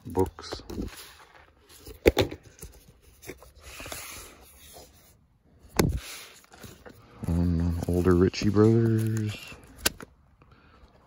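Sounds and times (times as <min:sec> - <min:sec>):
pages rustling and scraping: 0:00.1 - 0:10.1.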